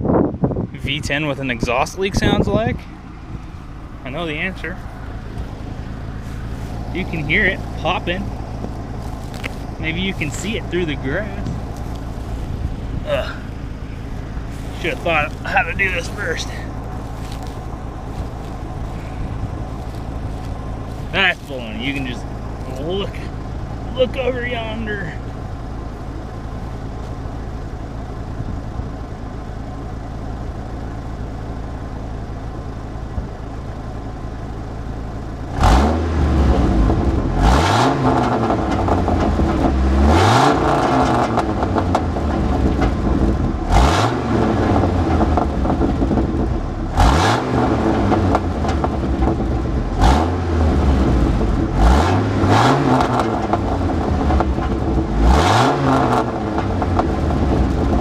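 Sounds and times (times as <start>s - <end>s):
truck engine idling and revving: 0.0s - 58.0s.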